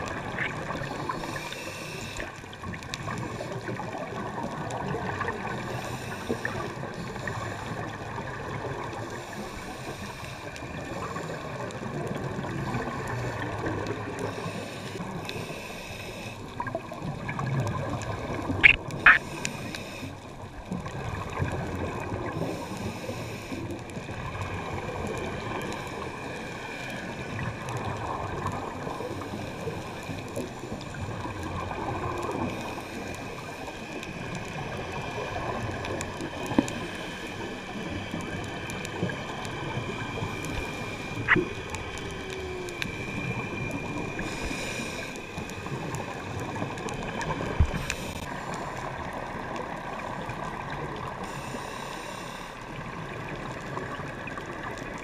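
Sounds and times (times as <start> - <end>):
muffled underwater rushing hiss: 0.0 - 55.0.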